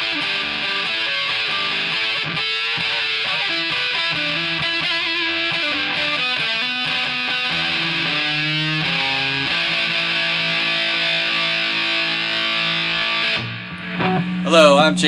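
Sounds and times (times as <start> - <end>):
fuzz electric guitar: 0.0 - 15.0.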